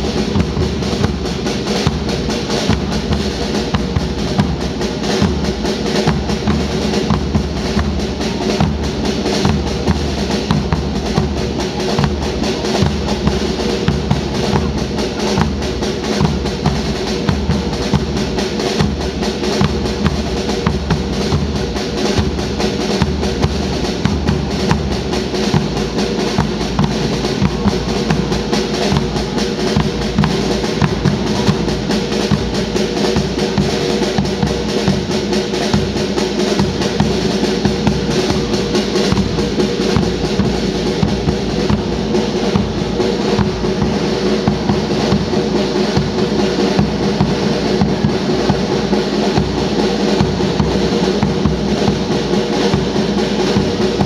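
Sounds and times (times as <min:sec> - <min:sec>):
bass drums beating: 0:00.0 - 0:54.0
snare drums with rolls: 0:00.0 - 0:54.0.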